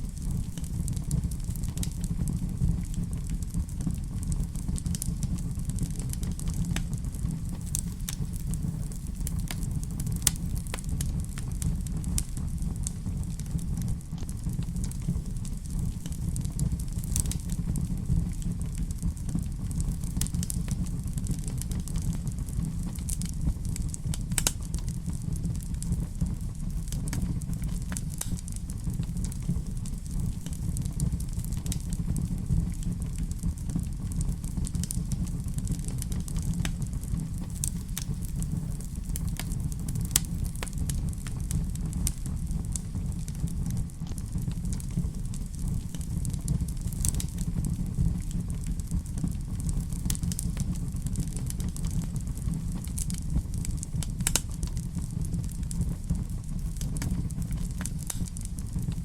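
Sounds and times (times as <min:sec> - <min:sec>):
fire crackles and pops: 0:00.0 - 0:59.0
fireplace fire rumbling: 0:00.0 - 0:59.0.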